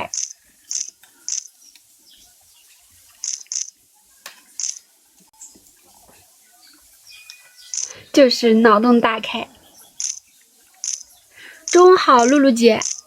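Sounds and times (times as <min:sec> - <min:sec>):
small bird chirping: 0:00.0 - 0:08.6, 0:09.3 - 0:13.0
faint clicks and crackles: 0:00.1 - 0:08.0, 0:09.8 - 0:13.0.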